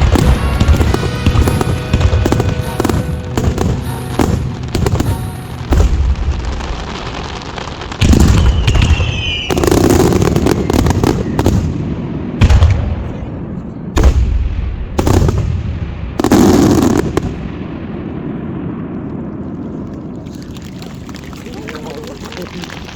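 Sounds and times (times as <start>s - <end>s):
fireworks crackling: 0.0s - 12.8s, 14.0s - 22.9s
fireworks booming: 0.0s - 20.6s.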